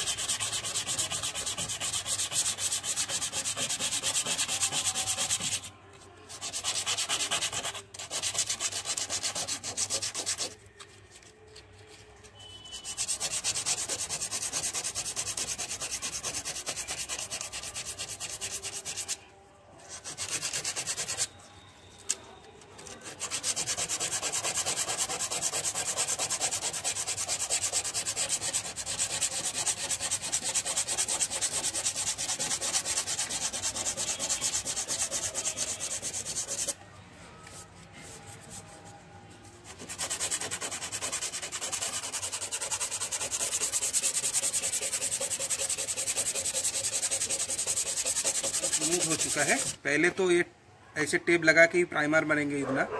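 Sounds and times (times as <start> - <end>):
sandpaper scraping filler: 0.0 - 5.7, 6.3 - 12.1, 12.8 - 19.2, 19.8 - 21.3, 22.8 - 36.8, 39.6 - 49.8.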